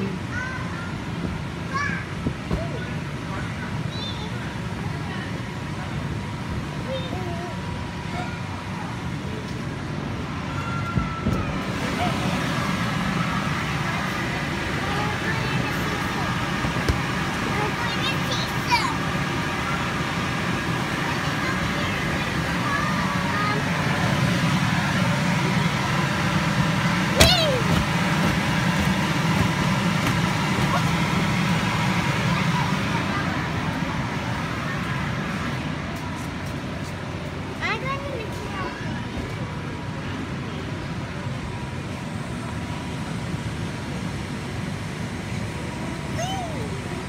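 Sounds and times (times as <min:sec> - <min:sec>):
blower fans droning: 0:00.0 - 0:47.0
faint constant whine: 0:00.0 - 0:47.0.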